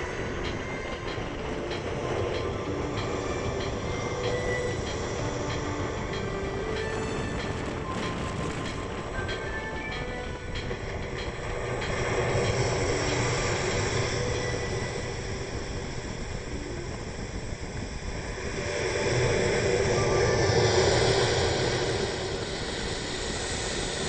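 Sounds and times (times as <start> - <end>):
gusty wind: 0.0 - 24.0.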